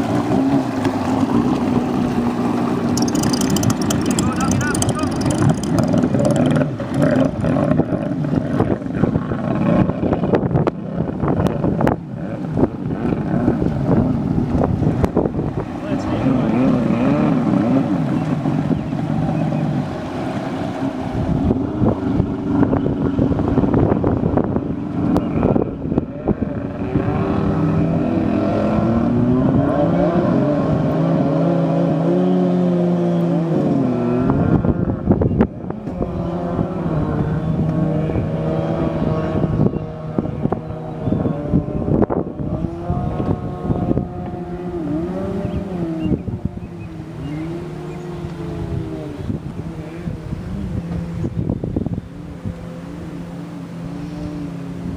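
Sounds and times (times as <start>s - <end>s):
jet ski engine revving: 0.0s - 54.9s
wind buffeting microphone: 0.0s - 54.9s.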